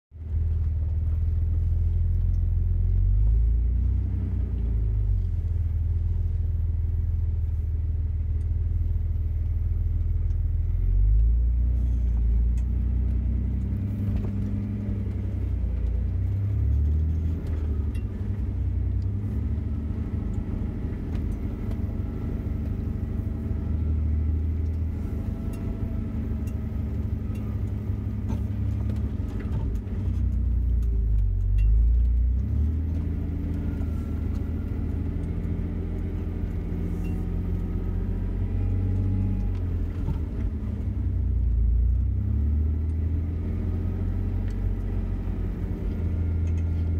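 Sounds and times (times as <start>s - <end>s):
car engine rumbling: 0.1s - 46.9s.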